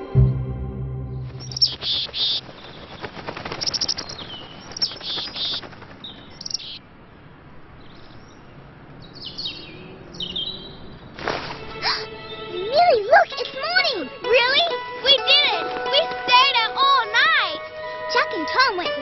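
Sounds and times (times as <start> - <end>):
songbirds chirping and twittering: 1.3 - 16.8.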